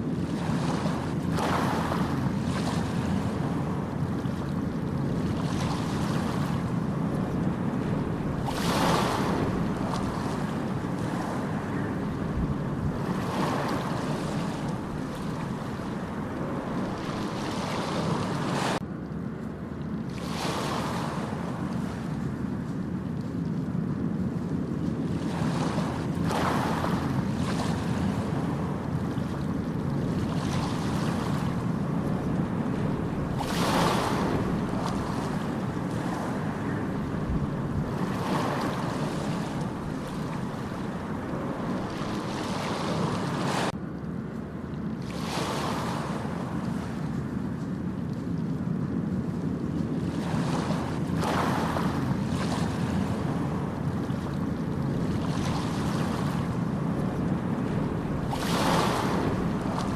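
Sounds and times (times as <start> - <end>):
ocean waves washing onto beach: 0.0 - 59.9
wind rumbling on microphone: 0.0 - 59.9.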